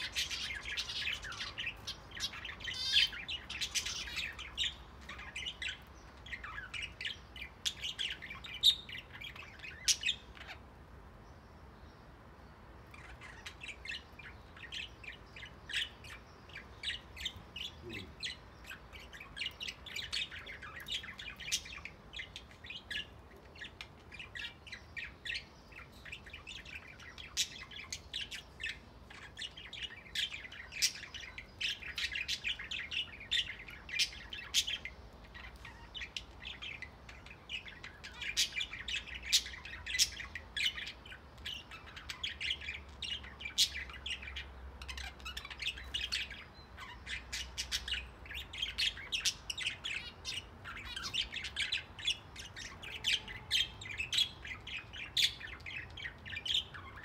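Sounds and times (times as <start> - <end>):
small birds chattering and chirping: 0.0 - 57.0.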